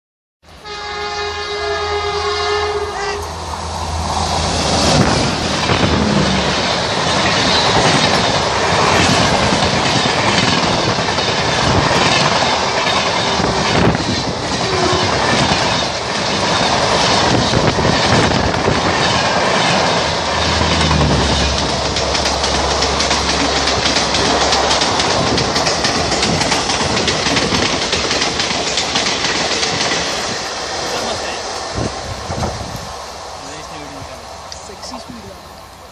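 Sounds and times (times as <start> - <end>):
train wheels rushing on rail: 0.5 - 35.9
wheels clacking over rail joints: 4.8 - 35.0.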